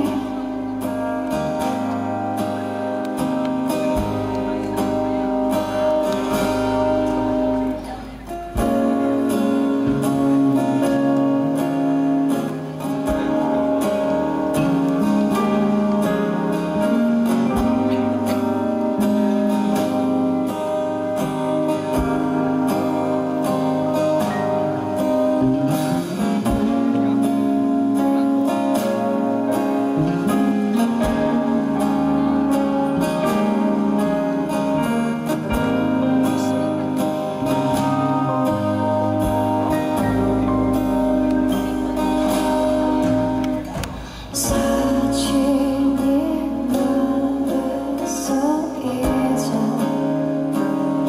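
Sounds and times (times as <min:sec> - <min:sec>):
band music: 0:00.0 - 0:51.0
strummed acoustic guitar: 0:00.0 - 0:51.0.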